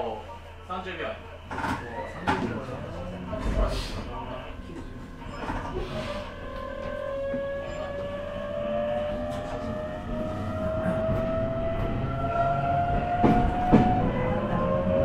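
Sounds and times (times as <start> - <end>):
wheel and rail rumble: 1.4 - 15.0.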